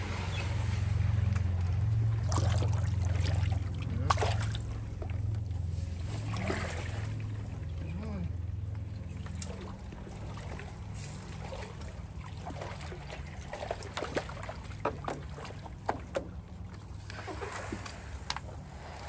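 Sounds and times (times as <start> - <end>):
paddle strokes in water: 0.0 - 7.9, 8.7 - 19.0
steady low hum: 0.0 - 19.0.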